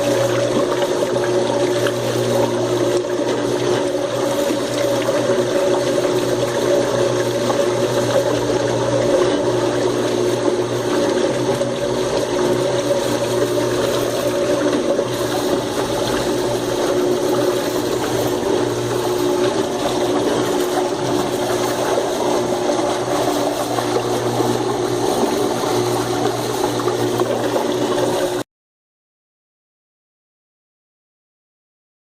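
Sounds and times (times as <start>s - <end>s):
churning rushing water: 0.0s - 28.4s
washing machine pump running: 0.0s - 28.5s.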